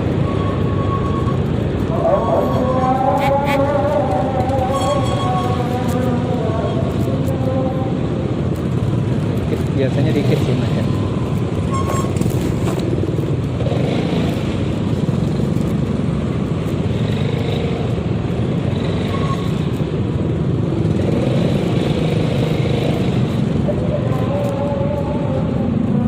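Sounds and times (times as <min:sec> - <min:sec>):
wind and road rush: 0:00.0 - 0:26.0
scooter engine running: 0:01.4 - 0:26.0.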